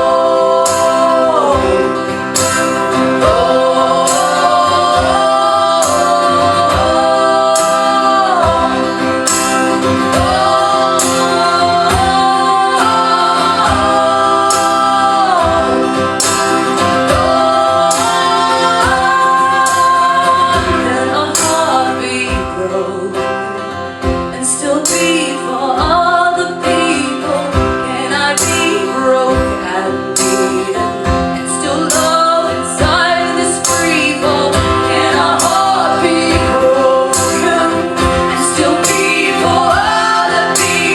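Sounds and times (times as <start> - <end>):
voices singing in harmony: 0.0 - 23.6, 24.3 - 40.9
strummed acoustic guitar: 0.0 - 40.9.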